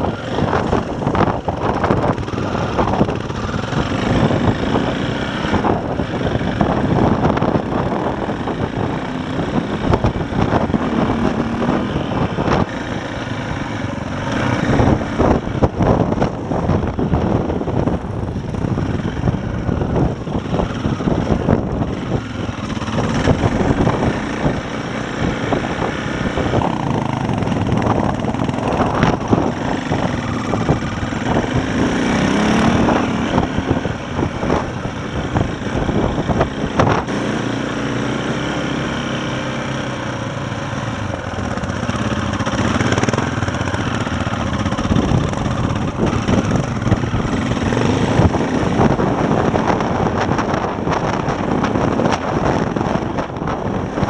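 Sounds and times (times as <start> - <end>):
motorcycle engine under load: 0.0 - 54.0.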